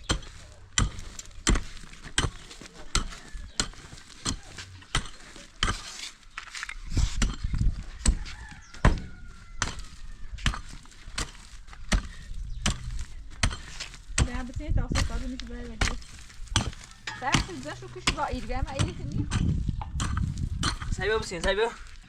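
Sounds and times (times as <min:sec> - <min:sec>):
hand tool striking: 0:00.0 - 0:08.2, 0:08.8 - 0:21.7.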